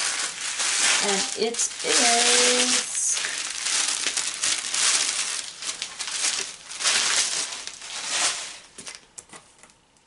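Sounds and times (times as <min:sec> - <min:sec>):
tissue paper crinkling: 0:00.0 - 0:09.0.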